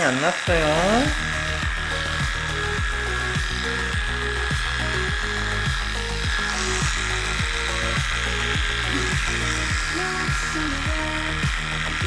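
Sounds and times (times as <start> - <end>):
electric hair clippers buzzing: 0.0 - 12.0
background music with beat: 0.6 - 12.0.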